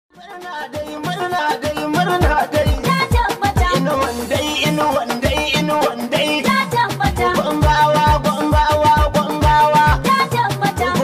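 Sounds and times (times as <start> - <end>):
percussion: 0.1 - 11.0
pop melody: 0.1 - 11.0.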